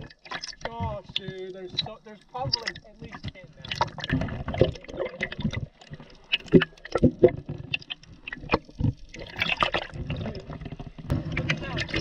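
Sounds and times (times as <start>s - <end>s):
underwater gurgling: 0.0s - 12.0s
water rushing: 0.0s - 12.0s.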